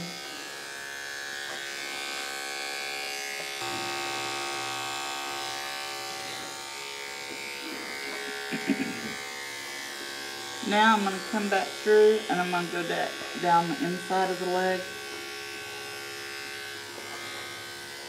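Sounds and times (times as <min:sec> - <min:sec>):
electric hair clipper humming: 0:00.0 - 0:18.0.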